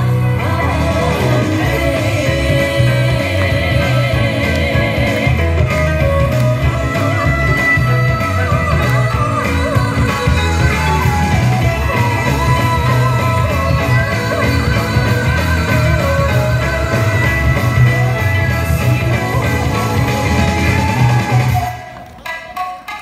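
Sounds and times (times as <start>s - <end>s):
rock music with singing: 0.0s - 22.7s.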